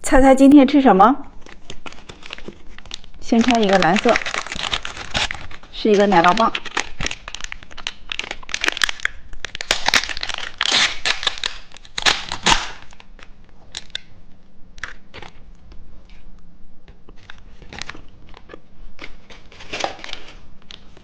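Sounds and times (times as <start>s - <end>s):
plastic wrapper crinkling and tearing: 1.3s - 14.1s, 14.8s - 16.2s, 17.1s - 21.0s.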